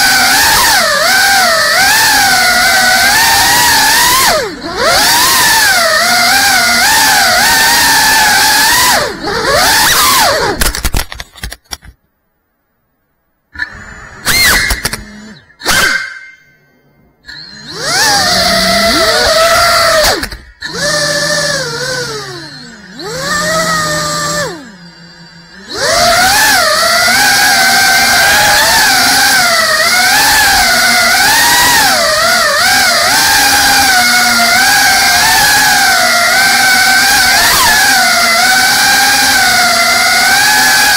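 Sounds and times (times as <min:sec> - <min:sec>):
drone propellers whining: 0:00.0 - 0:11.5, 0:13.5 - 0:40.9.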